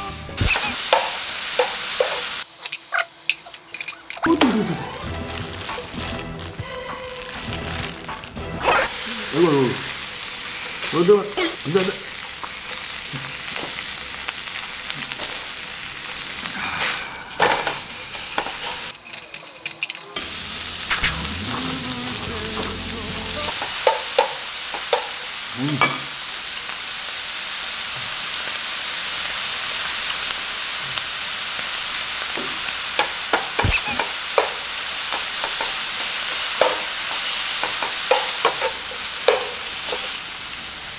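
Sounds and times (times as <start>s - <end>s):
meat sizzling in a frying pan: 0.1s - 40.9s.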